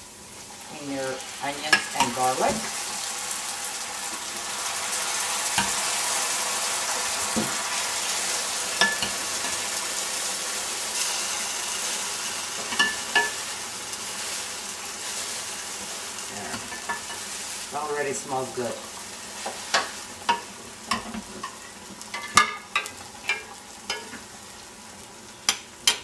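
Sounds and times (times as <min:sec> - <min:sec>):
sauce sizzling in frying pan: 0:00.0 - 0:26.0.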